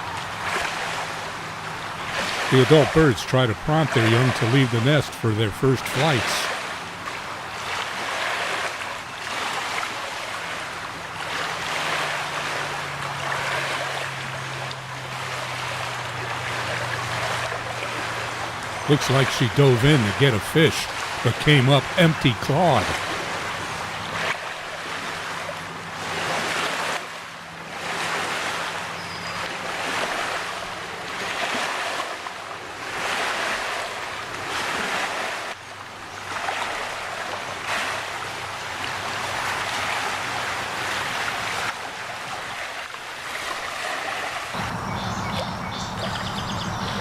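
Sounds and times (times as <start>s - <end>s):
water noise: 0.0s - 47.0s
wind: 0.0s - 47.0s.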